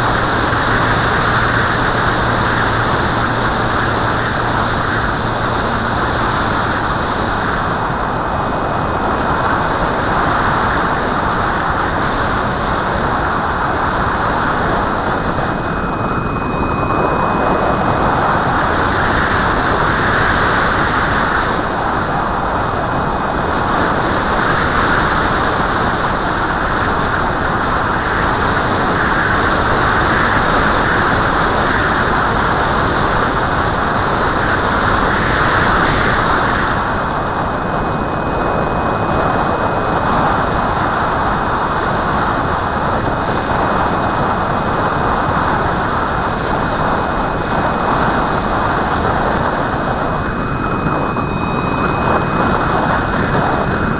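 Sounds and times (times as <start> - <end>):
faint high whine: 0.0 - 53.9
wind roaring over microphone: 0.0 - 53.9.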